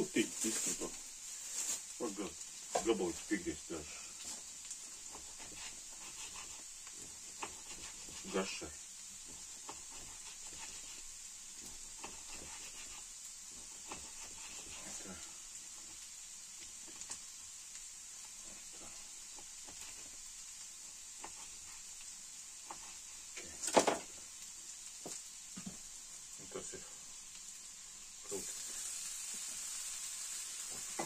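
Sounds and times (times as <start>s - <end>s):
potatoes sizzling in a pan: 0.0s - 31.0s.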